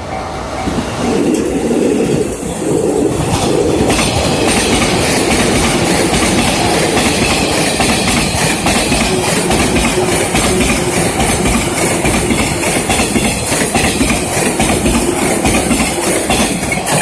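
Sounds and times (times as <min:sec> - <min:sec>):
train passing: 0:00.0 - 0:17.0
wheels clacking over rail joints: 0:03.2 - 0:17.0.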